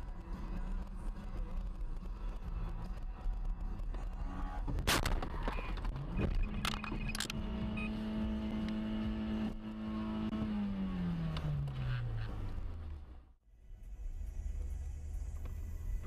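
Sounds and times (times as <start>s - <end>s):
car engine revving: 0.2s - 13.4s.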